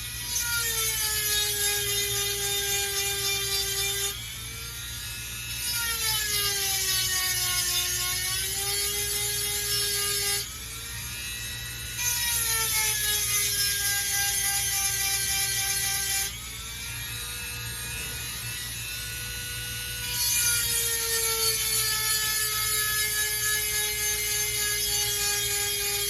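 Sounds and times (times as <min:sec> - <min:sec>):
rotary tool whining: 0:00.0 - 0:26.0.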